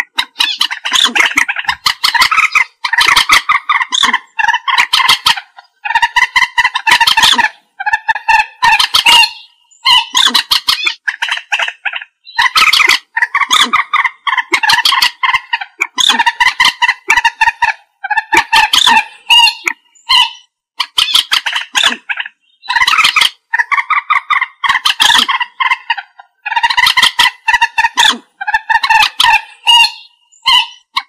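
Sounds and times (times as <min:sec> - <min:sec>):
moorhen calling harshly: 0:00.0 - 0:31.0.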